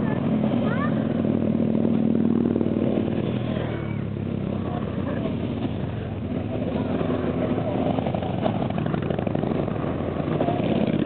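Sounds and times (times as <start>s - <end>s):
motorcycles passing: 0.0s - 11.0s.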